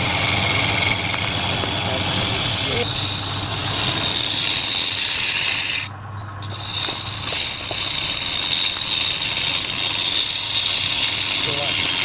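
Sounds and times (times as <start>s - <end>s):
chisel scraping spinning wood: 0.0s - 12.0s
lathe humming: 0.0s - 12.0s.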